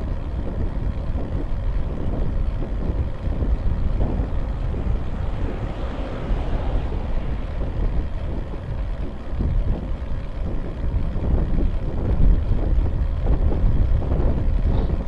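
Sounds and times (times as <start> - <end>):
road noise: 0.0 - 15.0
wind buffeting microphone: 0.0 - 15.0
van passing by: 1.4 - 15.0.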